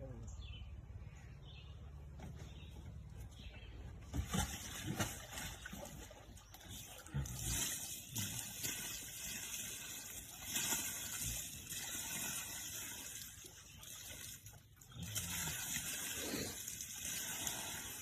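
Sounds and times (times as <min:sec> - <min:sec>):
water splashing and sloshing: 0:02.1 - 0:18.0.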